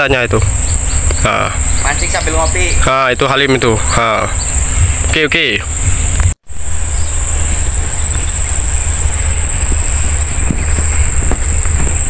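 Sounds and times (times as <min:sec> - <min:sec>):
constant low rumble: 0:00.0 - 0:12.0
insect chorus: 0:00.0 - 0:12.0.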